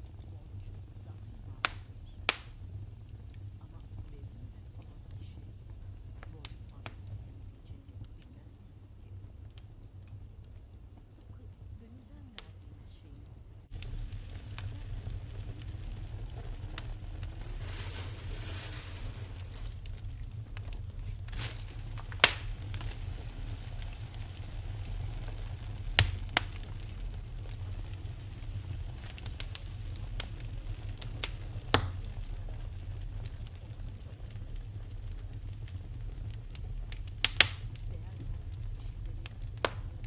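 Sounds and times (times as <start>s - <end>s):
sharp fire pops: 0.0s - 12.9s, 13.6s - 40.0s
low steady rumble: 0.0s - 40.0s
soft hiss: 0.0s - 40.0s
wood fire crackling: 0.0s - 40.0s.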